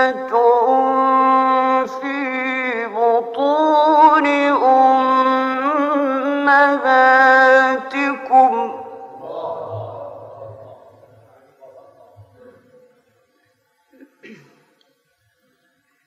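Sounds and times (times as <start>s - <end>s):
man chanting recitation: 0.0s - 12.9s.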